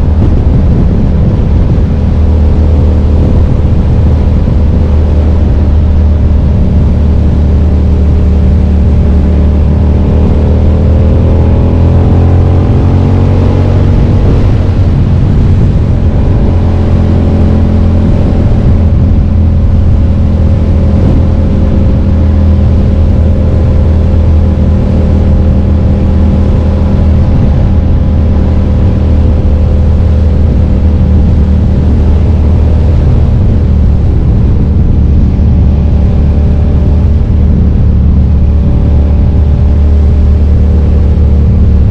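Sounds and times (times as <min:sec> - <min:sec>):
motorcycle engine running: 0:00.0 - 0:41.9
steady rush of noise: 0:00.0 - 0:41.9.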